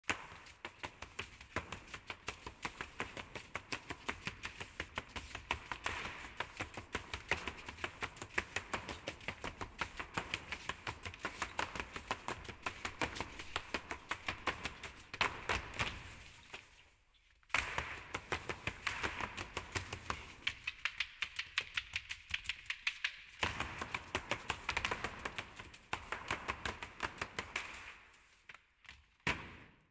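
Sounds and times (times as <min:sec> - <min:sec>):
brooms sweeping and tapping rhythmically: 0:00.0 - 0:28.4.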